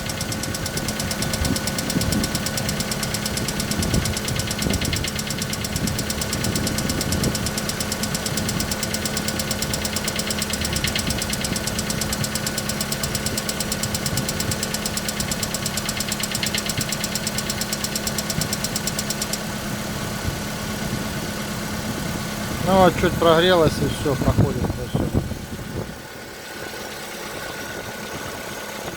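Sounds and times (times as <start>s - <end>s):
engine idling with rattling tick: 0.0s - 28.9s.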